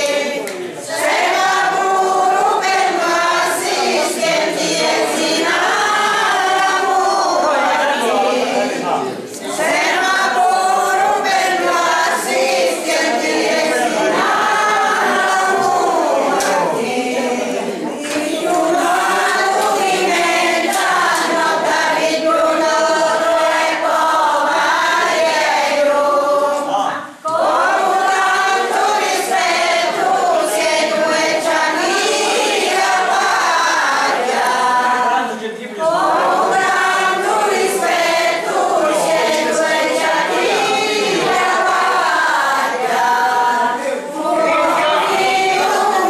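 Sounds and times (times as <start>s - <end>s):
group singing folk song: 0.0s - 46.0s.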